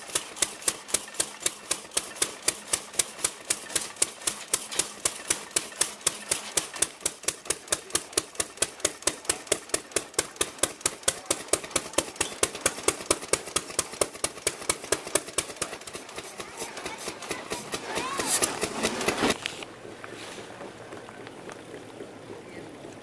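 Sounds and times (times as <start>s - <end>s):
drag saw clattering through log: 0.0s - 20.7s.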